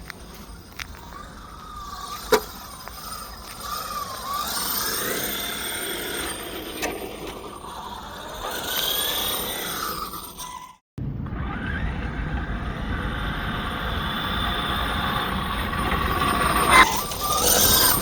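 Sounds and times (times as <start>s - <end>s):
toy car motor whining: 0.0s - 10.8s, 13.1s - 18.0s.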